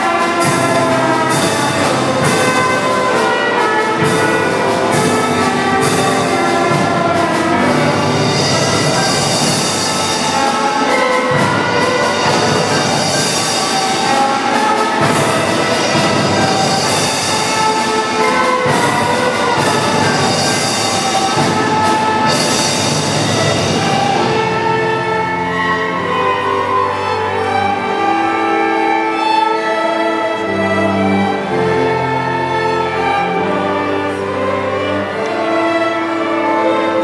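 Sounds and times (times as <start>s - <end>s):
symphony orchestra playing: 0.0s - 37.0s.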